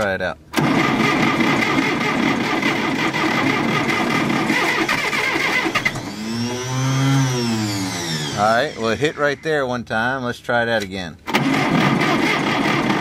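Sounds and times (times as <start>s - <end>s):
engine starter cranking: 0.6s - 9.5s, 11.3s - 13.0s.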